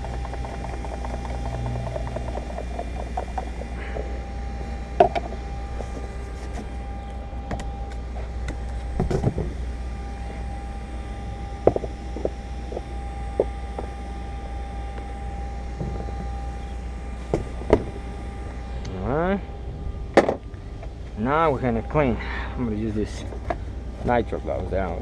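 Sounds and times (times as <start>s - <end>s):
faint steady whine: 0.0s - 25.0s
low hum: 0.0s - 25.0s.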